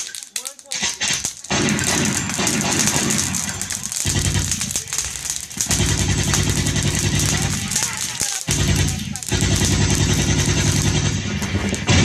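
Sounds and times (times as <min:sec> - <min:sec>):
rapid crackling gunfire effects: 0:00.0 - 0:12.0.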